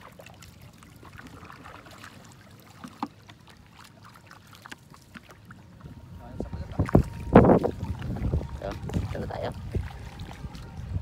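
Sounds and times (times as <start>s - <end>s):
paddles splashing in water: 0.0s - 11.0s.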